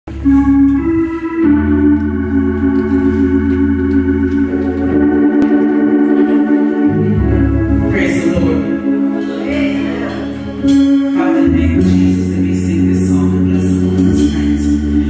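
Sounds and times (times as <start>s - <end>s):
organ playing chords: 0.1s - 15.0s.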